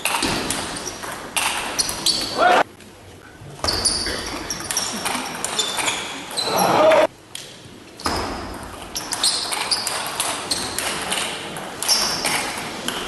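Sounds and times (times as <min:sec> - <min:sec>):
murmur in sports hall: 0:00.0 - 0:13.0.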